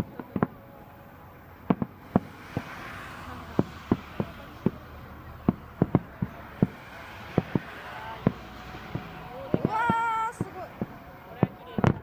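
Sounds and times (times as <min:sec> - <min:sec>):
distant firework bangs: 0:00.0 - 0:00.6, 0:01.6 - 0:12.0.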